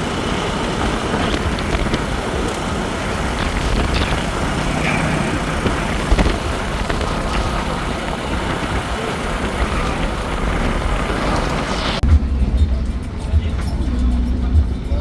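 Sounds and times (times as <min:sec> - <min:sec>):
road and traffic noise: 0:00.0 - 0:15.0
vehicle engine running: 0:00.0 - 0:15.0.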